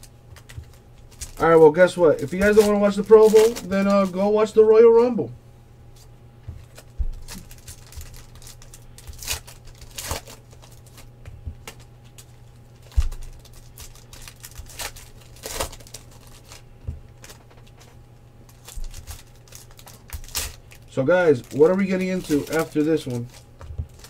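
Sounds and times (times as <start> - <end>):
cards and wrappers rustling: 0.0 - 5.2, 6.6 - 24.0.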